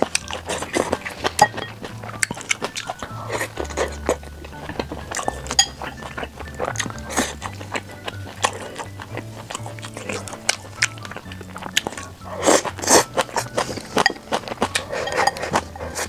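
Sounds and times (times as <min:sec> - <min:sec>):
chewing and crunching: 0:00.0 - 0:16.0
chopsticks clinking on bowl: 0:00.0 - 0:16.0
quiet background music: 0:00.0 - 0:16.0.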